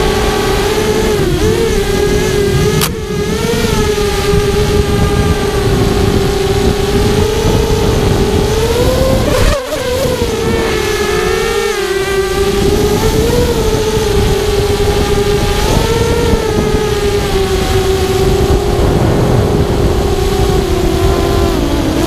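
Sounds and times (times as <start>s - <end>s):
drone propellers whining: 0.0s - 22.0s
wind rush on microphone: 0.0s - 22.0s.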